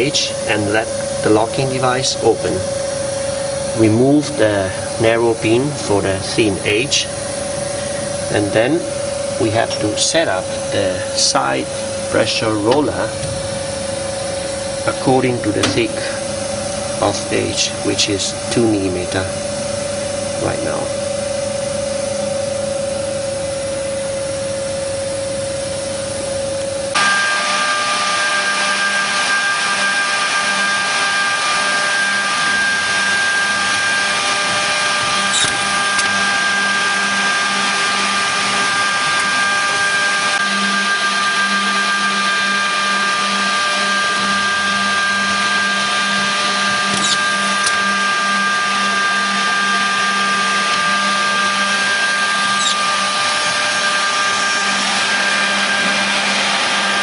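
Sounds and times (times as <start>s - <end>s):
machine motors humming and whining: 0.0s - 57.0s.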